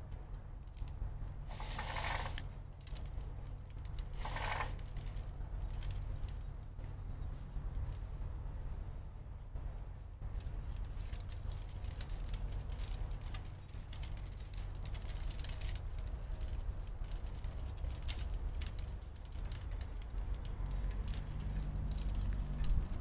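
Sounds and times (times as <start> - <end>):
light clicks and crackles: 0.0 - 8.9, 9.5 - 23.0
wind rumbling on microphone: 0.0 - 23.0.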